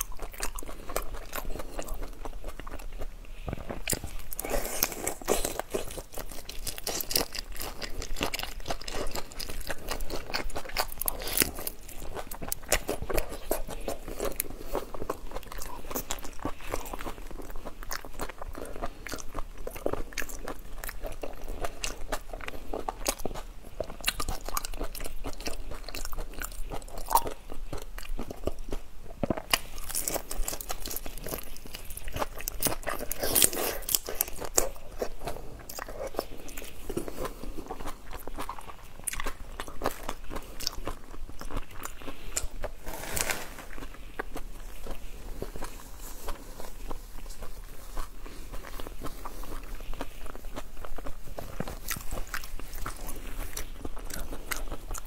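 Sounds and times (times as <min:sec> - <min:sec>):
chewing shrimp shell crunches: 0:00.0 - 0:55.0.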